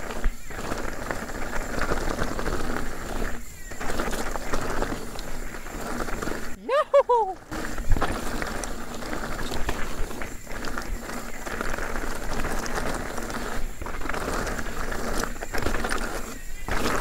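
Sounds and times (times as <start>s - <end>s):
bike clicks and rattles: 0.0s - 17.0s
bike tyres crunching over rock: 0.0s - 17.0s.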